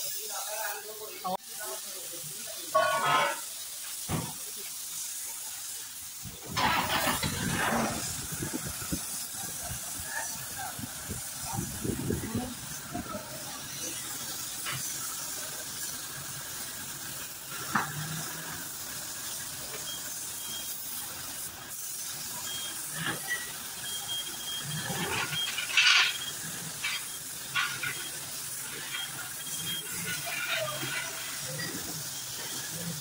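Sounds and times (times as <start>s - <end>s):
spray gun hissing: 0.0s - 33.0s.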